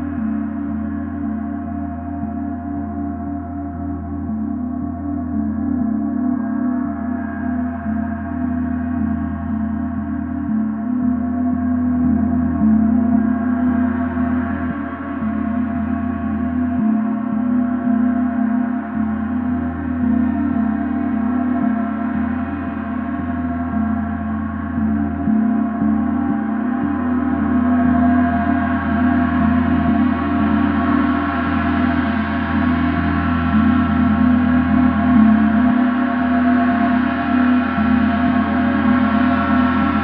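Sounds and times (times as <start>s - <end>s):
gong sustained wash: 0.0s - 40.0s.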